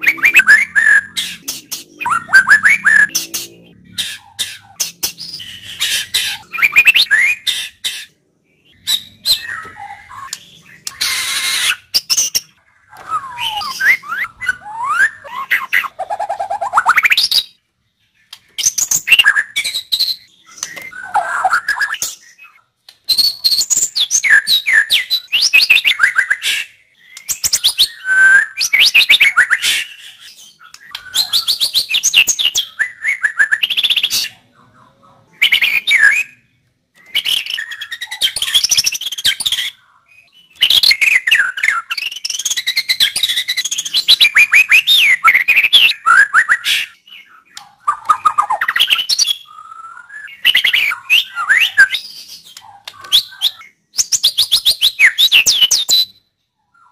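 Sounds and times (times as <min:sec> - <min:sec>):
songbird whistles and trills: 0:00.0 - 0:17.6, 0:18.3 - 0:34.3, 0:35.4 - 0:56.9.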